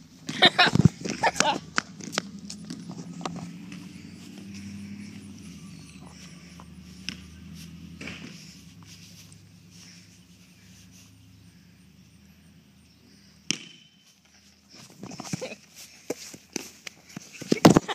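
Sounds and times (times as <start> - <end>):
low steady hum: 0.0 - 14.8.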